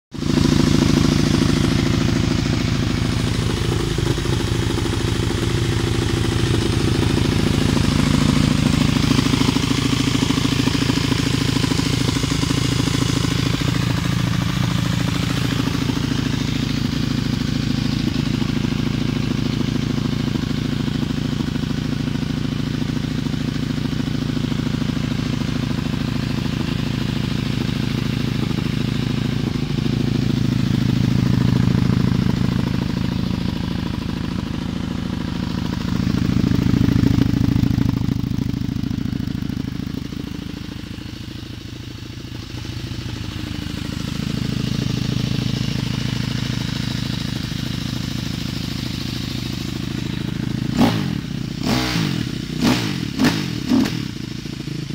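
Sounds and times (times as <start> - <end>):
motorcycle engine idling: 0.1 - 54.9.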